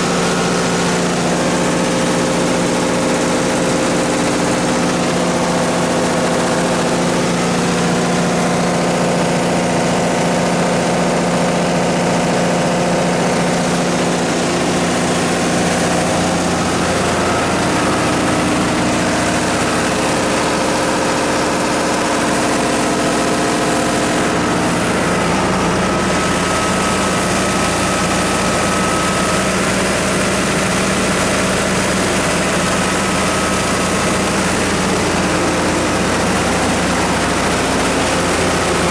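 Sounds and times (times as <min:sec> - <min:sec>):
diesel generator running: 0:00.0 - 0:38.9.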